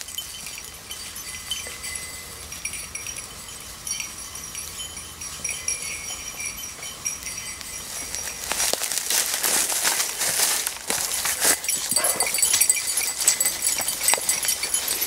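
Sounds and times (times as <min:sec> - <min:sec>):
small bell jingling: 0:00.0 - 0:15.0.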